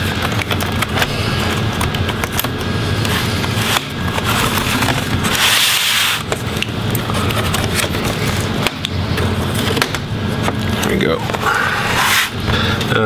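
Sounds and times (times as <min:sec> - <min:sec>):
tool scraping along plastic seam: 0:00.0 - 0:08.8, 0:10.8 - 0:12.6.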